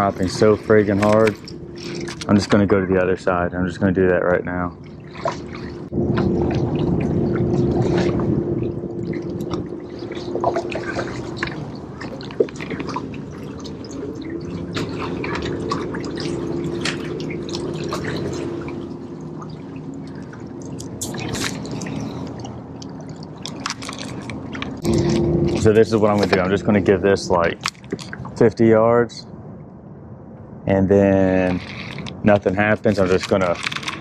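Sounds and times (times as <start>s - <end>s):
electric boat motor humming: 0.0s - 27.5s
water lapping against hull: 0.0s - 29.0s, 31.2s - 34.0s.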